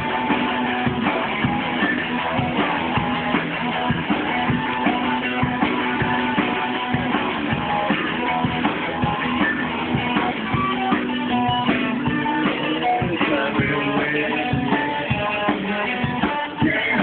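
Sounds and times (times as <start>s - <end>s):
drum kit beat: 0.0s - 17.0s
electric guitars: 0.0s - 17.0s.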